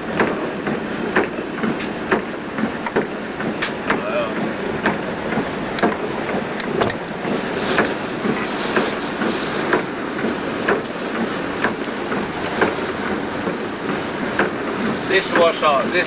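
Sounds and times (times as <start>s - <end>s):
bus road and engine noise: 0.0s - 16.0s.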